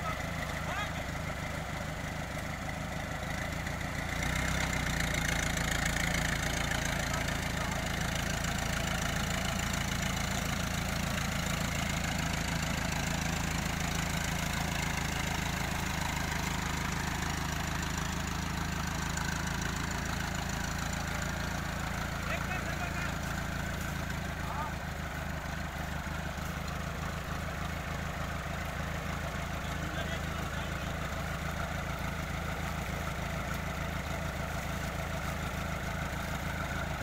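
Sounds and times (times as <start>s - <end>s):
tractor diesel engine: 0.0s - 37.0s.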